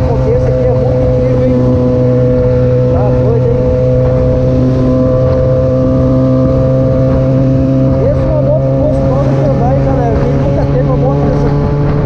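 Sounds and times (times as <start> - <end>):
motorcycle engine running steadily: 0.0 - 12.0
wind rushing over microphone: 0.0 - 12.0.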